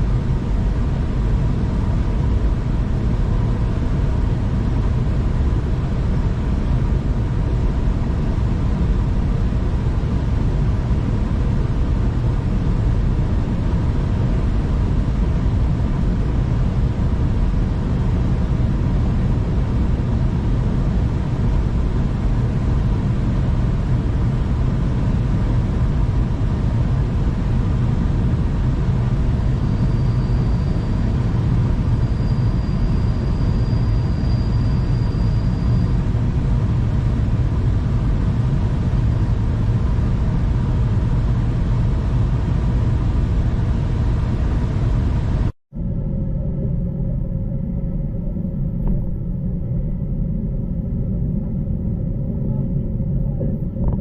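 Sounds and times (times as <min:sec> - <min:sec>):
train rumbling on track: 0:00.0 - 0:47.2
faint steady hum: 0:00.0 - 0:54.0.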